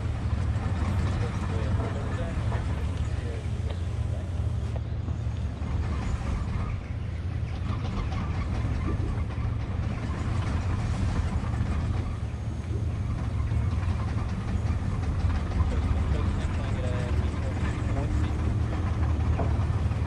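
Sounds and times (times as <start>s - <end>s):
diesel engines idling: 0.0s - 20.0s.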